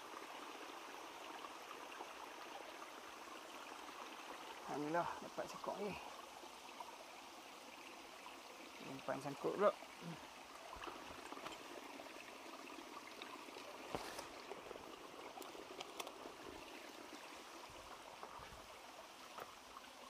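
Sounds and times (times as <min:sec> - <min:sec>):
stream water trickling: 0:00.0 - 0:20.0.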